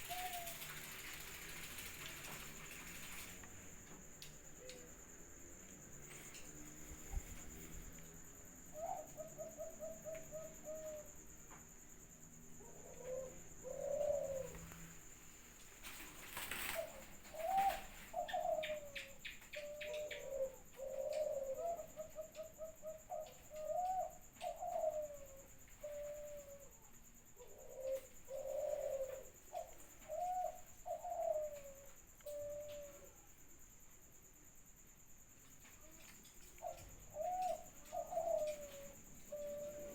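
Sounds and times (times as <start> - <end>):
doves cooing: 0.0 - 33.4, 35.7 - 39.9.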